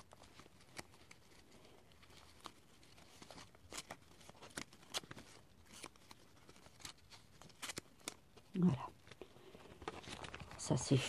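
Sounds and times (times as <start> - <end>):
book pages rustling: 0.0 - 11.0.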